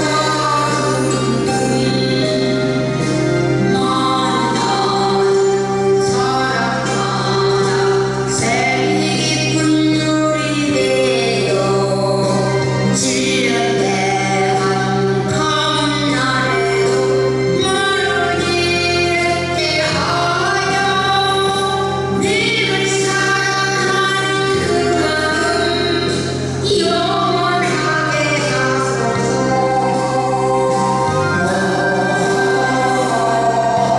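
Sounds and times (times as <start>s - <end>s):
amplified backing music: 0.0s - 33.9s
woman singing into microphone: 0.0s - 33.9s.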